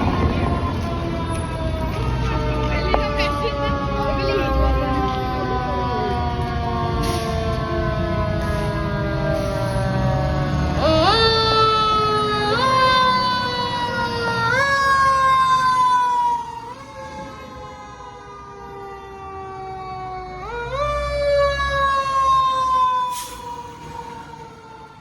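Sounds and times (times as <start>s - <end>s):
fire truck siren: 0.0s - 25.0s.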